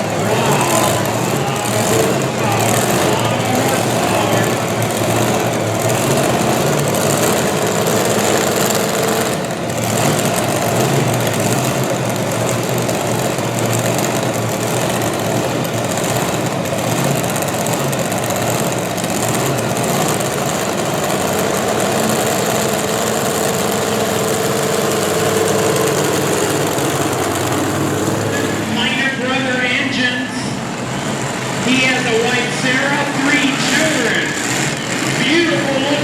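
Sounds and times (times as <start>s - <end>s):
tractor engine running loud: 0.0s - 36.0s.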